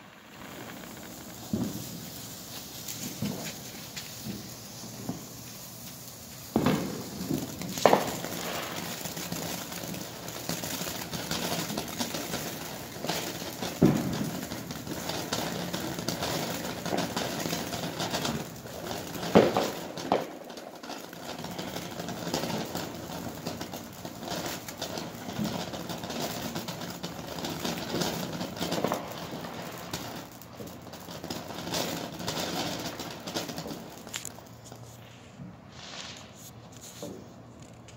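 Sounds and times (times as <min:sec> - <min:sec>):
firework fountain hissing and crackling: 0:00.0 - 0:37.9
firework pops: 0:00.0 - 0:37.9.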